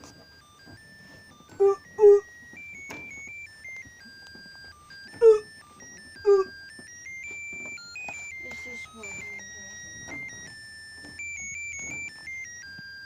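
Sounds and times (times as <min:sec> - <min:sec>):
thin electronic beeping tune: 0:00.6 - 0:12.6.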